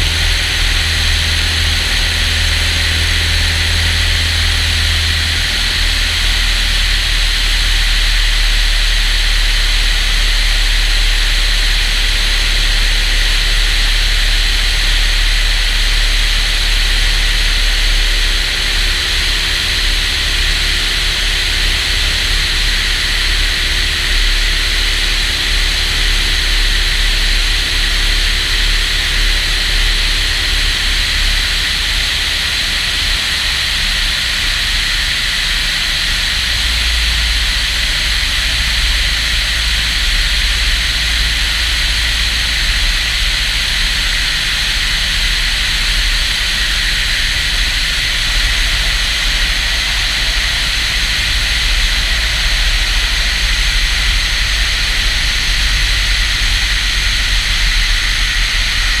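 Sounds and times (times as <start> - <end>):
light airplane engine and propeller: 0.0 - 59.0.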